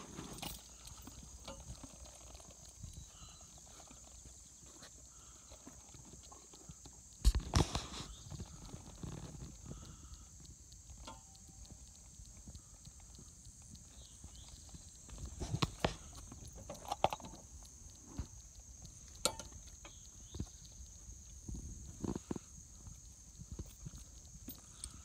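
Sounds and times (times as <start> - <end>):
hooves clopping on pavement: 0.0 - 25.0.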